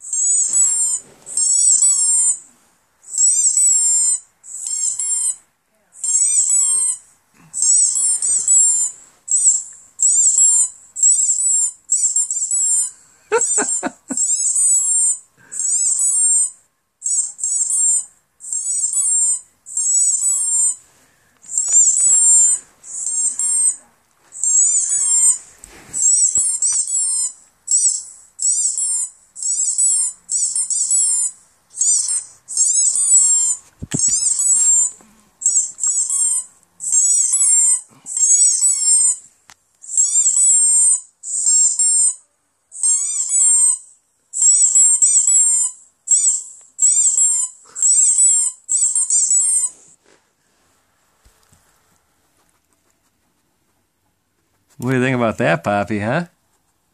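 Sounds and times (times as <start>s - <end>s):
dog whining: 0.0s - 2.5s, 3.1s - 5.4s, 6.0s - 20.8s, 21.5s - 39.3s, 39.9s - 42.2s, 42.8s - 50.0s
squeaky dog toy through speakers: 0.0s - 20.8s, 21.5s - 25.4s, 26.0s - 50.0s.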